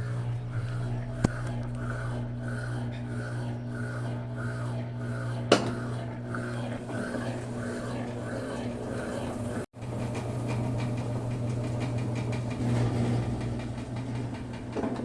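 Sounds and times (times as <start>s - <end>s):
rhythmic swish of washing machine: 0.0s - 15.0s
washing machine hum: 0.0s - 15.0s.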